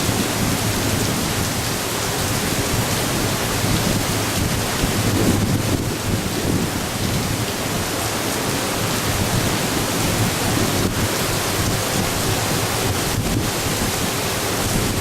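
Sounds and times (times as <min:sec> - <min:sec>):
strong wind: 0:00.0 - 0:15.0
torrential rain: 0:00.0 - 0:15.0.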